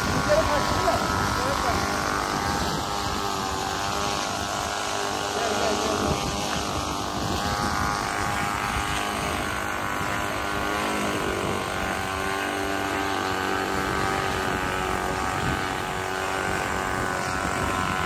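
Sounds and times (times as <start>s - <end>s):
model airplane engine droning: 0.0s - 18.0s
wind buffeting microphone: 0.0s - 18.0s.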